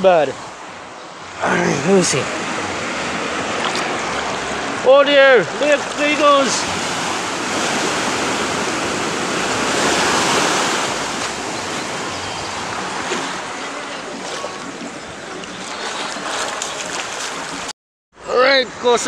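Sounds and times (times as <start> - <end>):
surf washing over sand: 1.4 - 17.7.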